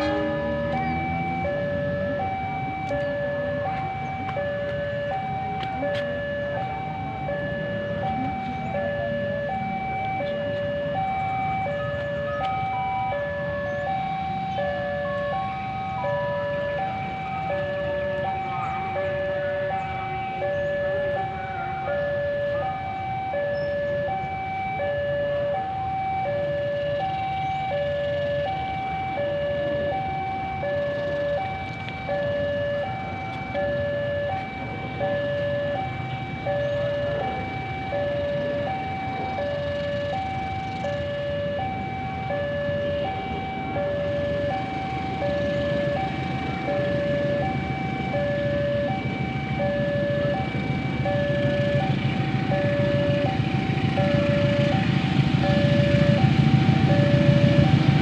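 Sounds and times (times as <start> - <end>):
level-crossing two-tone alarm: 0.0 - 58.0
low rumble of engines: 0.0 - 58.0.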